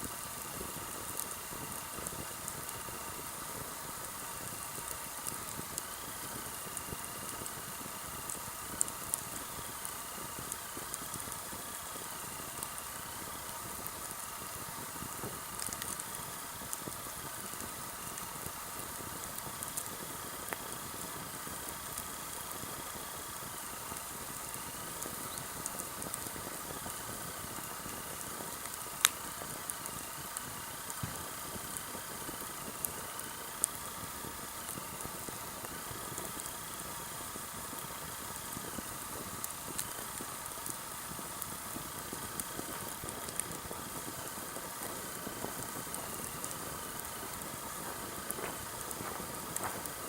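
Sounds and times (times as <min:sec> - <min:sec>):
campfire hissing and crackling: 0:00.0 - 0:50.0.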